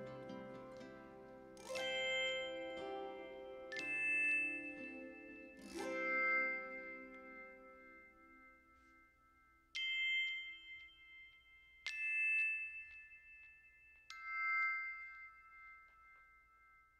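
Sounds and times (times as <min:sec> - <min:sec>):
bell-like chime notes: 0:00.0 - 0:16.9.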